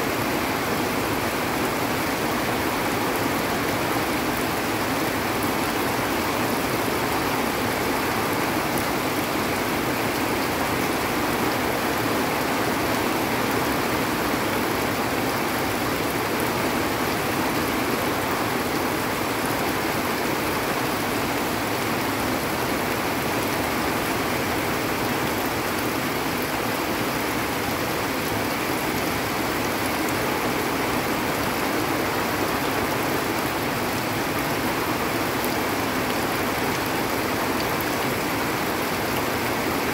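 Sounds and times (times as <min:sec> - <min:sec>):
runoff water rushing: 0:00.0 - 0:39.9
steady rain falling: 0:00.0 - 0:39.9.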